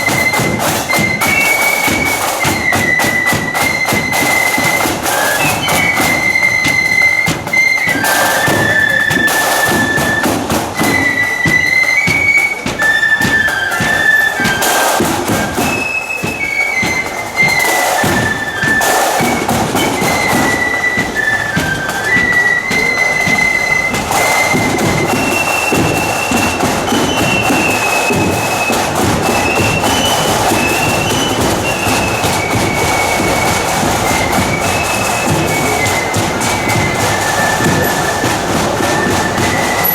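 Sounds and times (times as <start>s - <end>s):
drum beats: 0.0s - 39.9s
flute melody: 0.0s - 39.9s.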